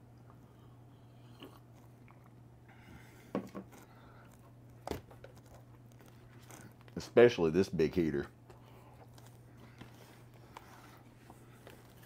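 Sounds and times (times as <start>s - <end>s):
faint chewing and mouth sounds: 0.0s - 7.1s, 8.3s - 12.0s
low steady hum: 0.0s - 12.0s.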